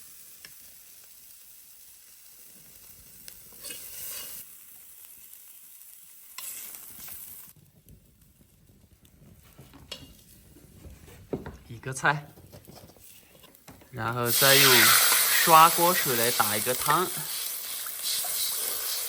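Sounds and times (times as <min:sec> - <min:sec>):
onion sizzling in hot oil: 0:00.0 - 0:10.6, 0:13.0 - 0:19.0.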